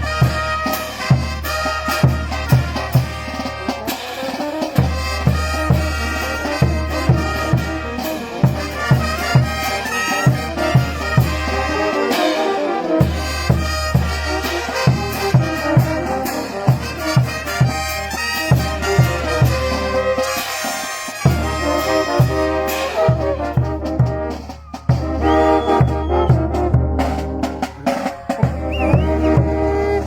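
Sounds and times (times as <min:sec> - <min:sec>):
brass band music: 0:00.0 - 0:30.0
steady drum beat: 0:00.0 - 0:30.0.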